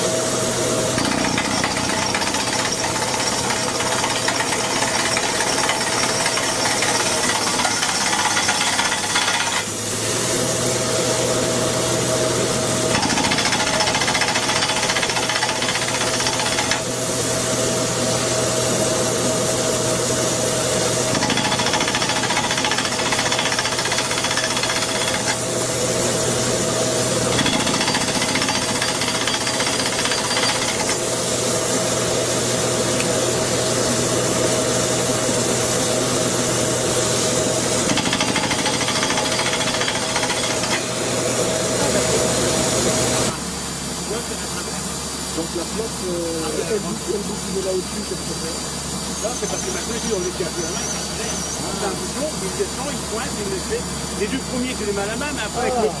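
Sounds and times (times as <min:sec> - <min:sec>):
constant machine hum: 0:00.0 - 0:56.0.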